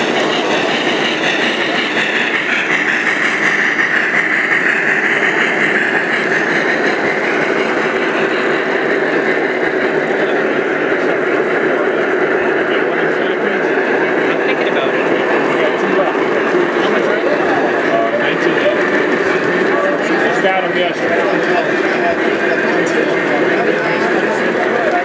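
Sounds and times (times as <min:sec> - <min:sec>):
model train wheels and motors rumbling: 0:00.0 - 0:25.0.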